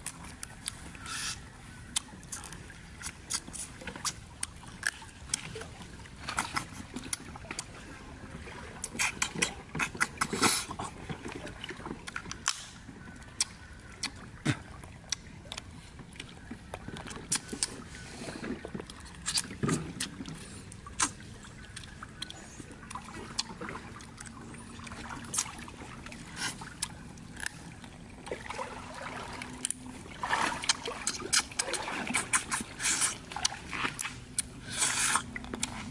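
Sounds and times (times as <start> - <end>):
chewing: 0.0 - 5.6, 8.8 - 10.9, 12.0 - 27.9, 30.6 - 35.9
stream trickling: 0.0 - 35.9.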